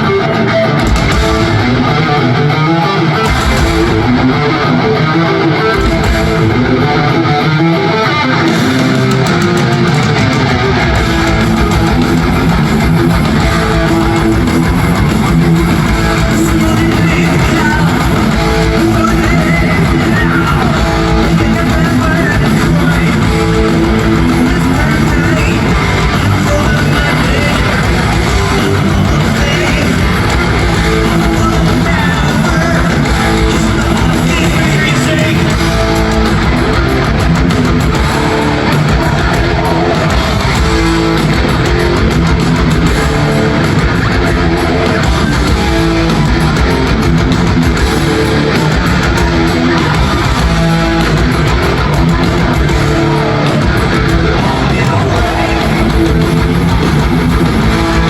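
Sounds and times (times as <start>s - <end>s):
heavy metal music: 0.0s - 58.0s.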